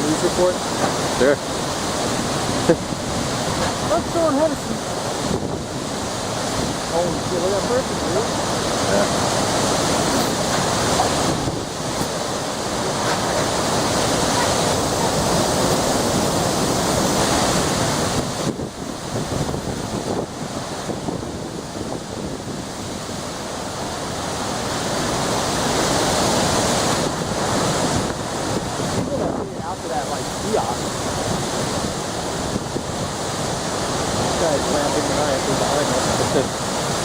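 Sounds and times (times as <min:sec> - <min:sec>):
storm wind gusting on microphone: 0:00.0 - 0:37.0.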